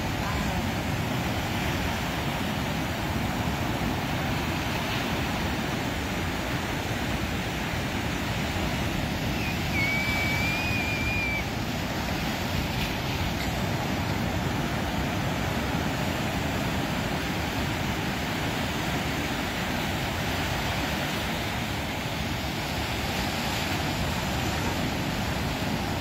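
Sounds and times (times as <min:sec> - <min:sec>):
ocean waves breaking on rocks: 0:00.0 - 0:26.0.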